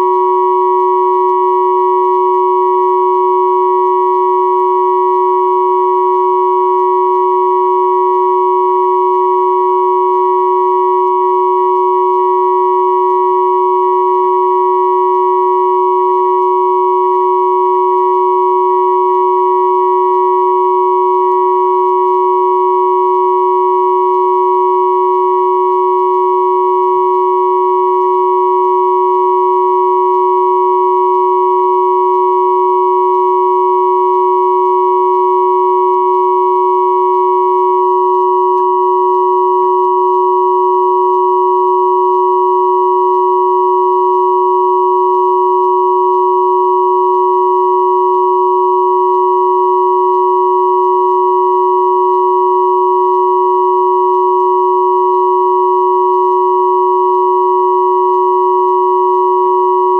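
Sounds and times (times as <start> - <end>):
steady sine tone chord: 0.0 - 59.9.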